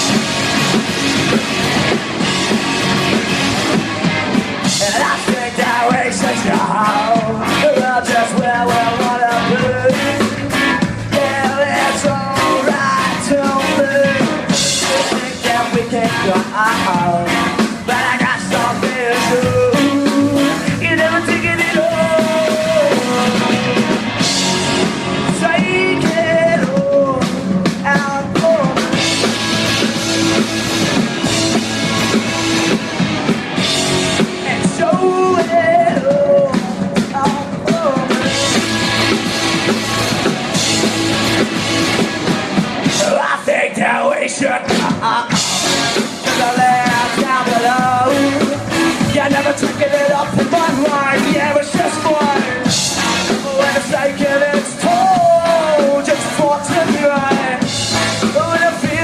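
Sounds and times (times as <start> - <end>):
live rock band playing: 0.0 - 59.0
person singing: 4.6 - 29.3, 34.0 - 40.7, 42.8 - 59.0.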